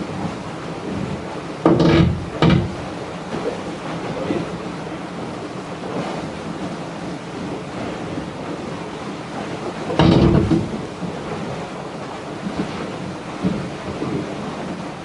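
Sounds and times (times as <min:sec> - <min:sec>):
water washing past a yacht: 0:00.0 - 0:15.0
wind over the microphone: 0:00.0 - 0:15.0.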